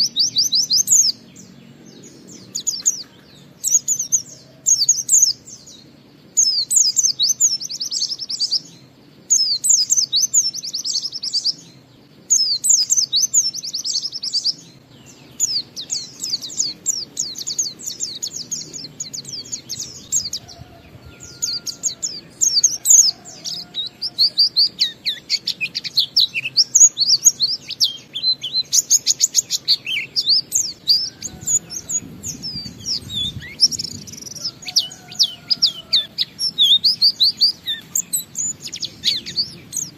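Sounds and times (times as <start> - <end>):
bird trilling and twittering: 0.0 - 39.9.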